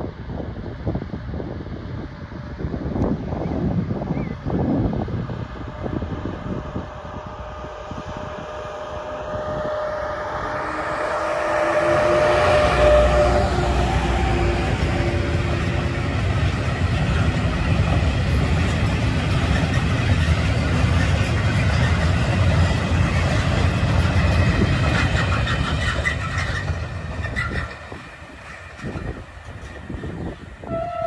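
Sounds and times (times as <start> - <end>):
locomotive engine droning: 0.0 - 31.0
wagons rumbling over rails: 0.0 - 31.0.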